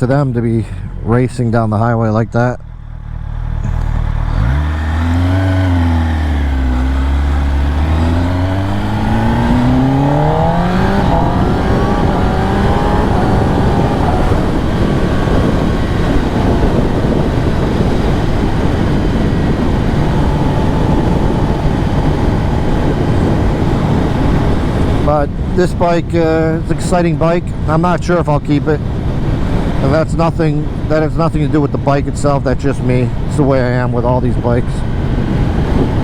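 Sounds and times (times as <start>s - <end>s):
motorcycle engine accelerating: 2.5s - 27.1s, 28.8s - 36.0s
rushing wind noise: 3.7s - 36.0s.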